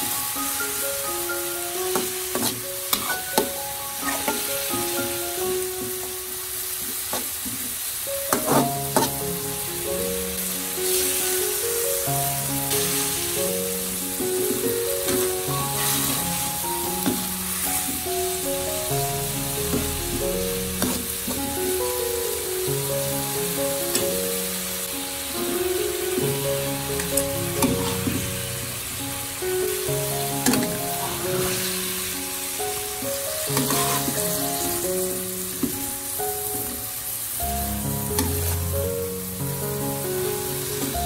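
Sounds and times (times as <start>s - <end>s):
background music: 0.0s - 7.1s, 8.0s - 41.0s
food sizzling in wok: 0.0s - 41.0s.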